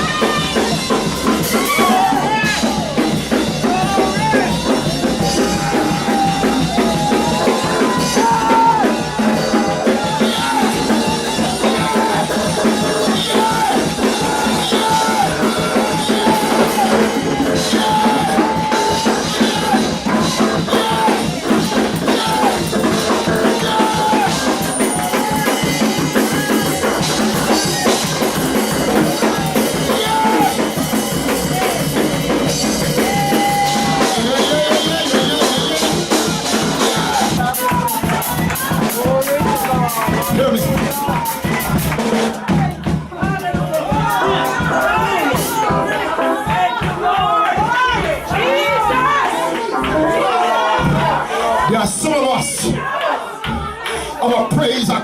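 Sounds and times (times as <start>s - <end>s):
drum kit fast beat: 0.0s - 52.8s
gospel band music: 0.0s - 55.0s.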